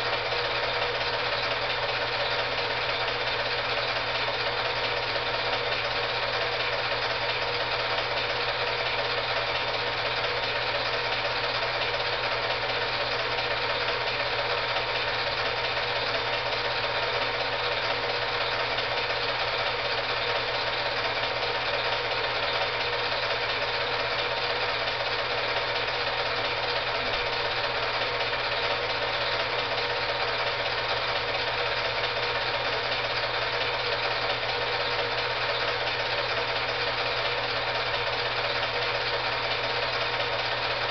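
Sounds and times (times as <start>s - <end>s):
film projector whirring and clattering: 0.0s - 40.9s.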